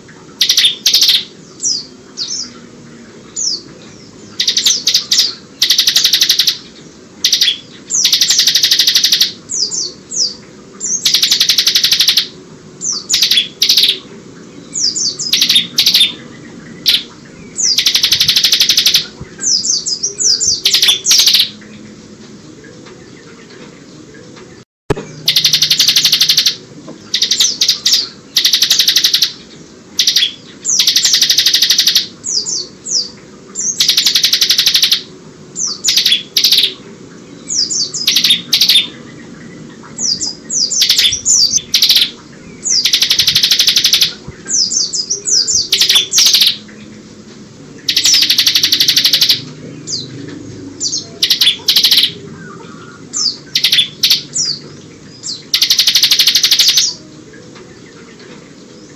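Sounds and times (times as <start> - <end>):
bird singing buzzing trills: 0.0 - 58.9.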